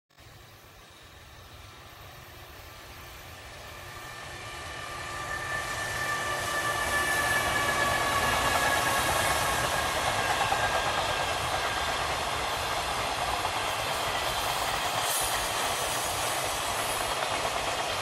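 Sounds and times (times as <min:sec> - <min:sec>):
electric locomotive high whine: 0:00.2 - 0:18.0
train passing: 0:00.2 - 0:18.0.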